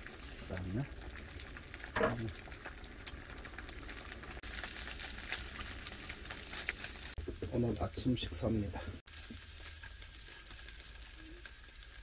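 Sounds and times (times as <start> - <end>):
eggs sizzling in a frying pan: 0.0 - 12.0.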